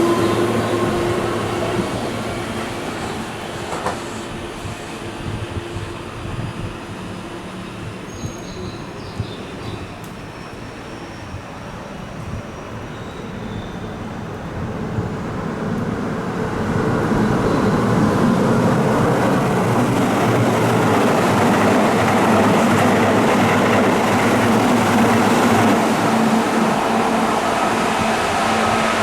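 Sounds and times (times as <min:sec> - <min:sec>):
electric train passing: 0:00.0 - 0:08.1, 0:09.6 - 0:29.0
train wheels on rail: 0:00.0 - 0:29.0.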